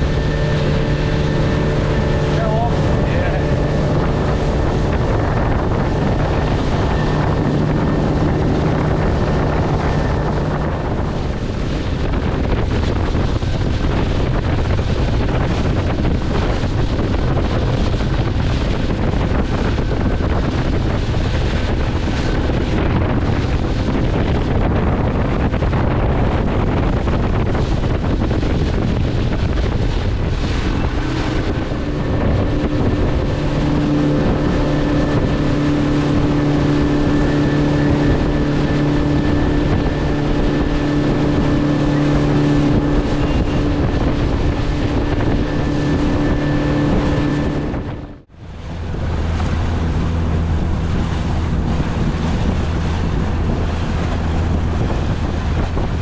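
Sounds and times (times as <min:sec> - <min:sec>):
motorboat engine drone: 0:00.0 - 0:56.0
water rushing along hull: 0:00.0 - 0:56.0
wind buffeting microphone: 0:00.0 - 0:56.0.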